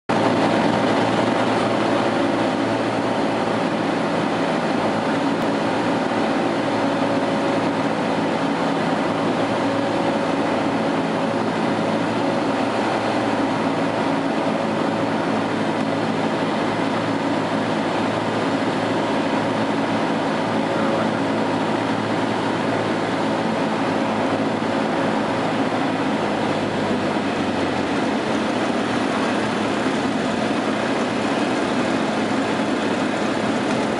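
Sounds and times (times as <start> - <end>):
light aircraft engine droning: 0.1 - 33.9.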